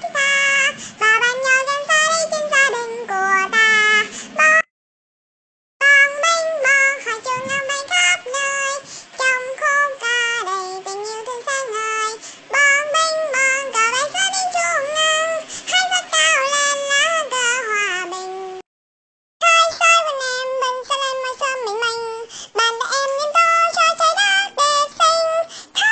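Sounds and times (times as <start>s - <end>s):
high-pitched voice singing: 0.0s - 4.7s, 5.8s - 18.6s, 19.4s - 25.9s.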